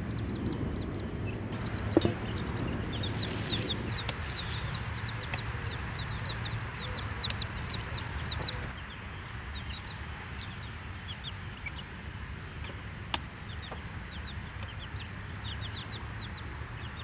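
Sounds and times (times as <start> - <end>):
baby chicks peeping: 0.0 - 17.0
low steady rumble: 0.0 - 17.0.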